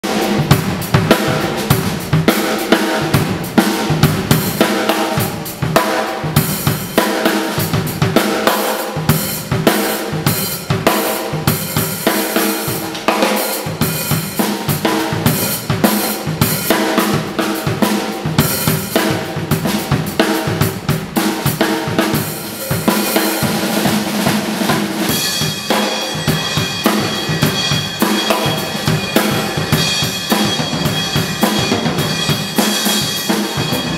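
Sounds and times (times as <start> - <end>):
acoustic drum kit groove: 0.0 - 33.9
cymbals ringing: 0.0 - 33.9.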